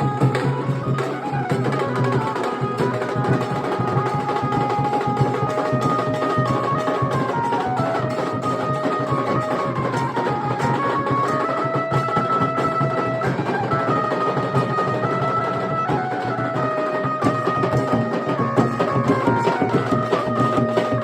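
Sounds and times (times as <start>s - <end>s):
fast dhol drumming: 0.0s - 21.0s.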